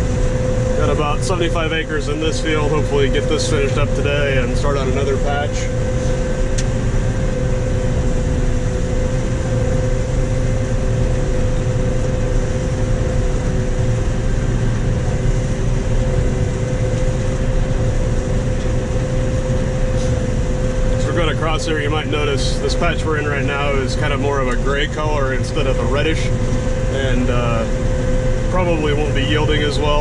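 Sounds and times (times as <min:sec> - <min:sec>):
combine harvester droning: 0:00.0 - 0:30.0
mid-pitched machine whine: 0:00.0 - 0:30.0.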